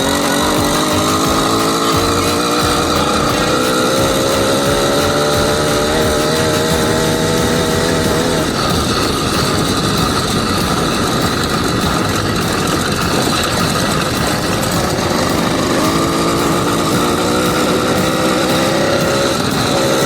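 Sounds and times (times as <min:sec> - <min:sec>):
two-stroke bicycle engine running: 0:00.0 - 0:20.0.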